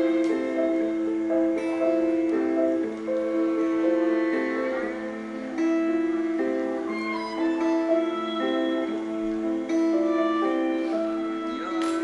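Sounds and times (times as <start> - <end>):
held instrumental notes: 0.0 - 12.0.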